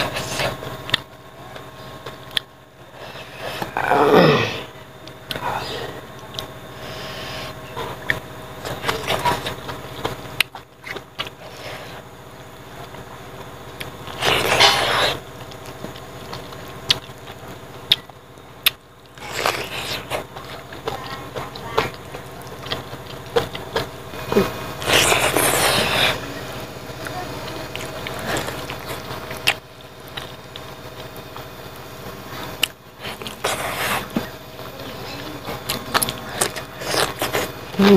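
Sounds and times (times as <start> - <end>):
man eating with lip smacks: 0.0 - 3.8, 5.0 - 34.7, 35.4 - 37.9.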